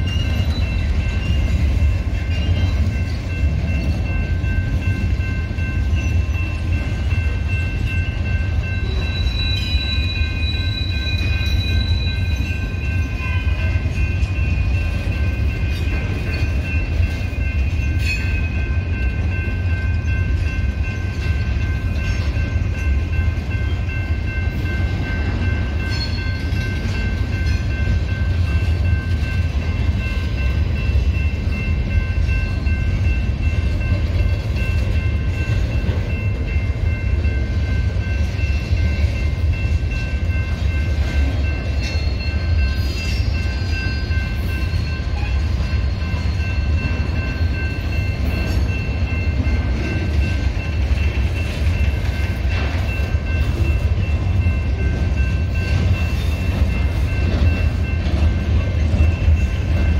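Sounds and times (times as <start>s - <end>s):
high metallic ringing: 0.0s - 59.9s
train wheels rumbling on rail: 0.0s - 59.9s.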